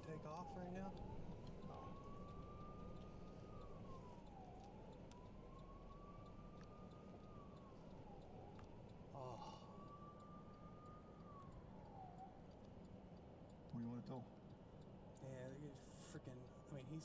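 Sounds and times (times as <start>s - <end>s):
siren wailing faintly: 0.0s - 17.0s.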